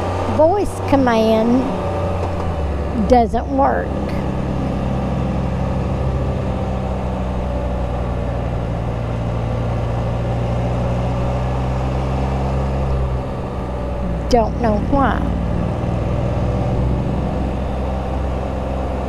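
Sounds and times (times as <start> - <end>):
engine running steadily: 0.0 - 19.0
wind and road noise: 0.0 - 19.0.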